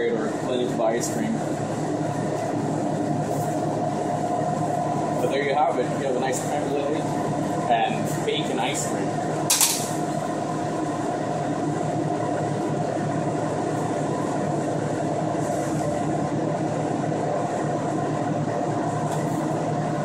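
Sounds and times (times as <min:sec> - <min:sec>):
constant hum: 0:00.0 - 0:20.0.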